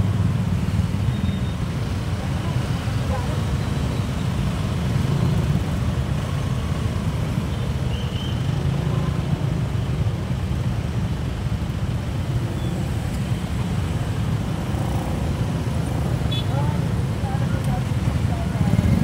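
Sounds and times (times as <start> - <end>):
idling motorcycle and car engines: 0.0 - 19.0.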